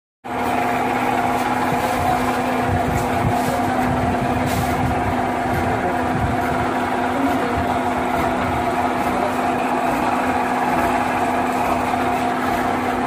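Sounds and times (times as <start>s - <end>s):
lathe humming with high whine: 0.3s - 13.0s.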